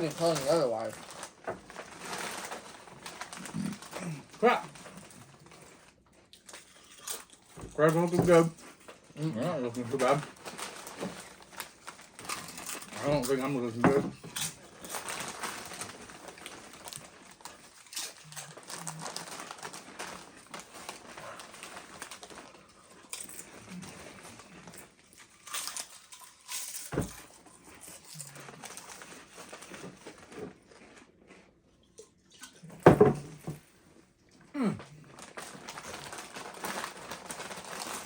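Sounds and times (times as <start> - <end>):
chip bag crinkling: 0.0 - 31.4, 34.9 - 38.0.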